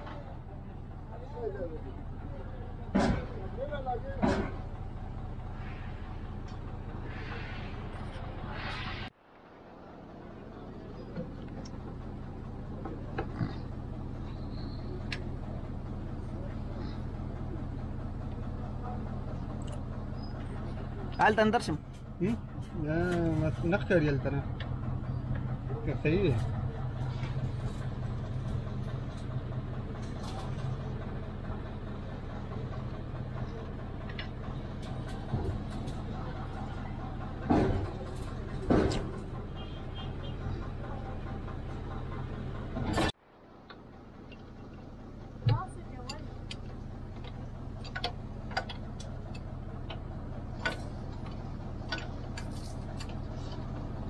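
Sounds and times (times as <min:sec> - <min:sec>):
engine idling: 0:00.0 - 0:54.0
steady low hum: 0:00.0 - 0:54.0.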